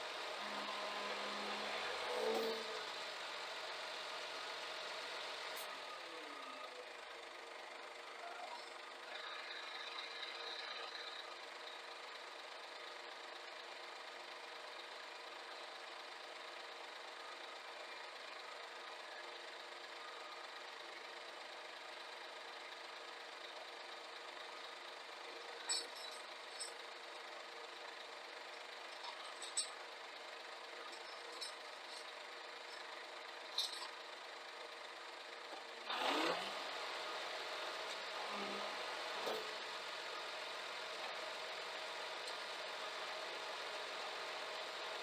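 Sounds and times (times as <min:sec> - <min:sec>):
truck diesel engine idling: 0:00.0 - 0:45.0.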